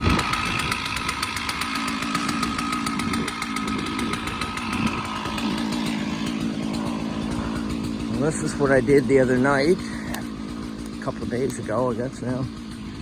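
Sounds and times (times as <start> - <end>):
chainsaw engine running: 0.0 - 13.0.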